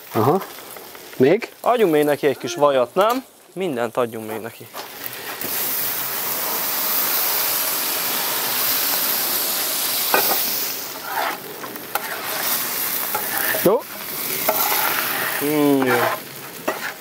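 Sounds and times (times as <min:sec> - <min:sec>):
potatoes sizzling on a griddle: 0:00.0 - 0:17.0.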